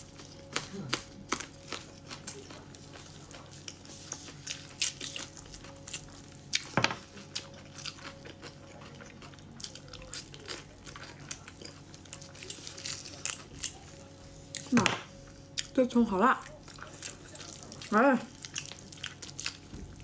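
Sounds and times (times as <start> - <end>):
mouth-full chewing: 0.0 - 15.8, 16.4 - 20.0.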